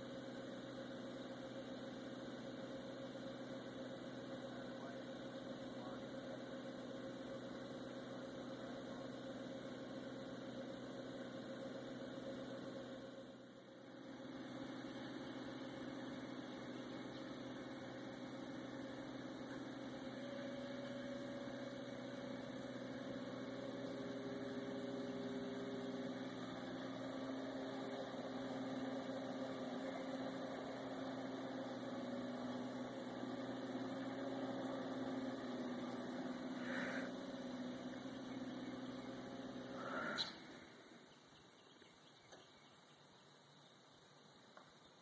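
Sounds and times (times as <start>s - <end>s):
distant vehicle engine running: 0.0s - 45.0s.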